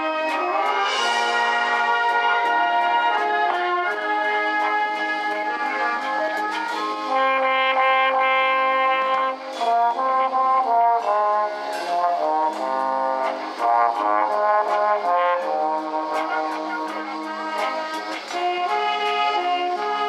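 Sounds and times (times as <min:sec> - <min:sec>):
light percussion ticks: 0:00.0 - 0:20.0
wind band brass chords: 0:00.0 - 0:20.0.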